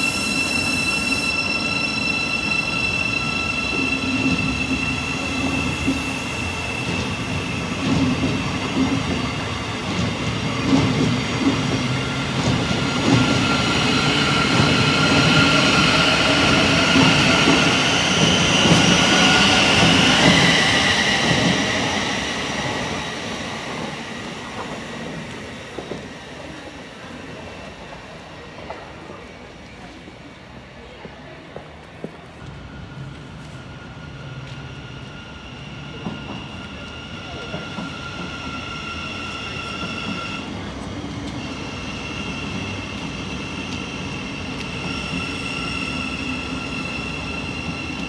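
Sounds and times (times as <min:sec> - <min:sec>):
train passing on rails: 0:00.0 - 0:48.0.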